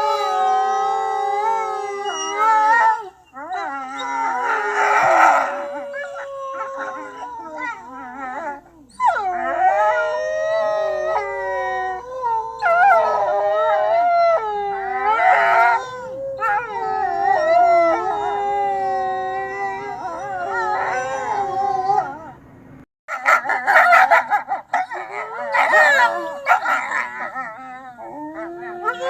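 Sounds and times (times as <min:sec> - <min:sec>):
wolves howling in chorus: 0:00.0 - 0:22.4, 0:23.1 - 0:29.0.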